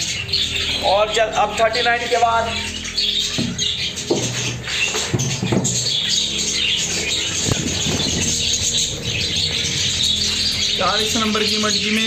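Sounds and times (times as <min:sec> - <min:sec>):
budgerigars chattering and squawking: 0:00.0 - 0:12.0.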